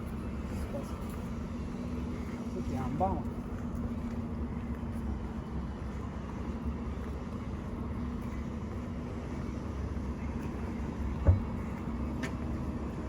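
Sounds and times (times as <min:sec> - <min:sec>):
city traffic rumble: 0:00.0 - 0:13.0
constant low hum: 0:00.0 - 0:13.0.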